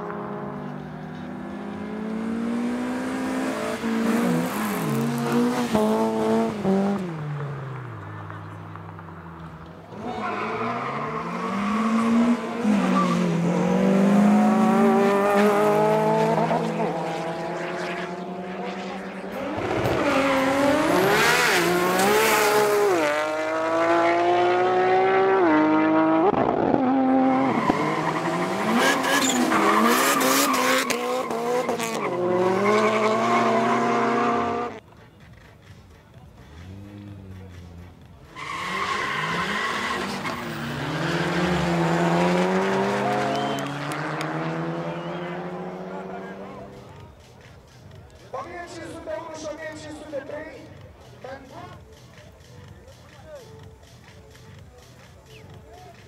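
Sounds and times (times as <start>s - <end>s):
drag racing cars accelerating: 0.0s - 34.8s, 36.5s - 47.1s.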